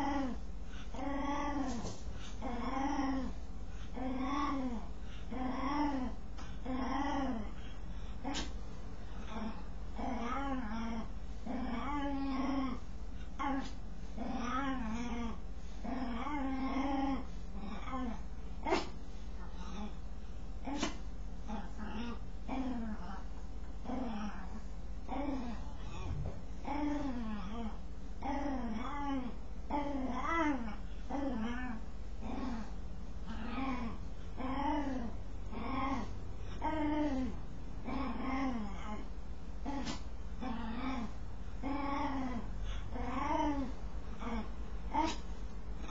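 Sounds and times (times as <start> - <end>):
dog moaning: 0.0 - 20.0, 20.6 - 45.9.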